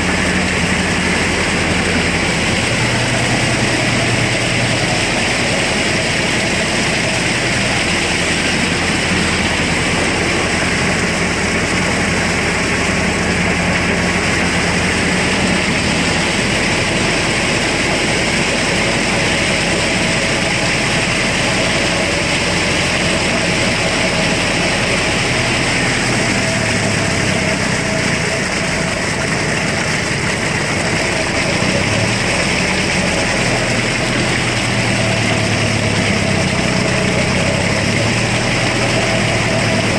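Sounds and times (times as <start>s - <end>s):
rotavator churning wet mud: 0.0s - 39.9s
tractor diesel engine under load: 0.0s - 39.9s.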